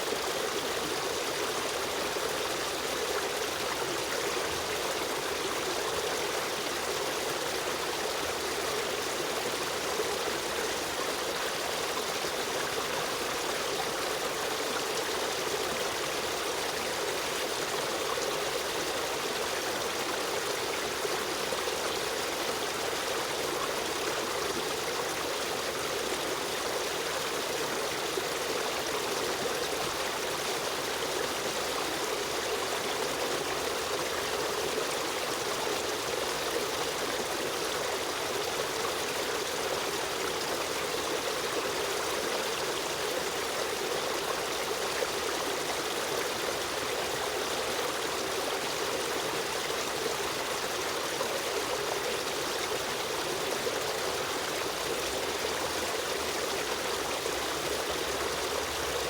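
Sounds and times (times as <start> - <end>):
shallow stream rushing and trickling: 0.0 - 59.0.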